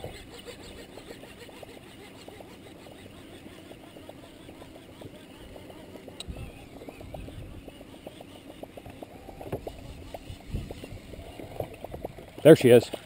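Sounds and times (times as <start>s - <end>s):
fishing reel whirring: 0.0s - 13.0s
low rumble of boat noise: 0.0s - 13.0s.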